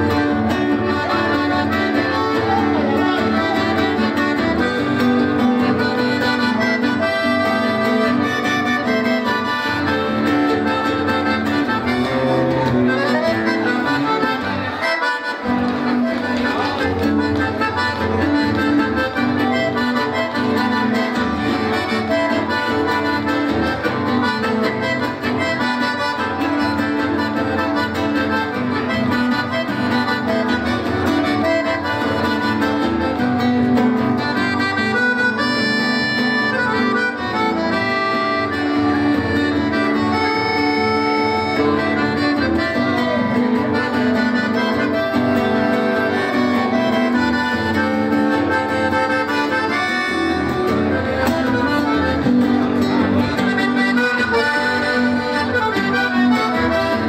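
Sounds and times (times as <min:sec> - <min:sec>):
classical guitar accompaniment: 0:00.0 - 0:57.0
piano accordion melody: 0:00.0 - 0:57.0.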